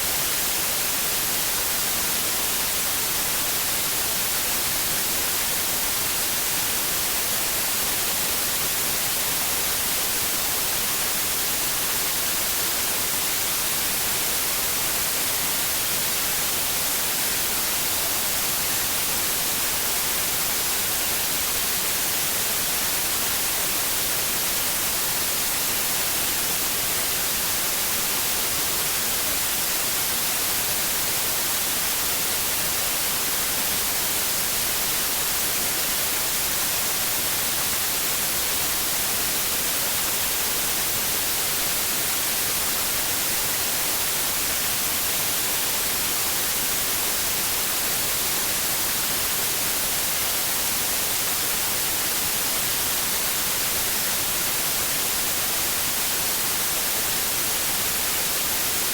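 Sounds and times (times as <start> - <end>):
white noise hiss: 0.0 - 58.9.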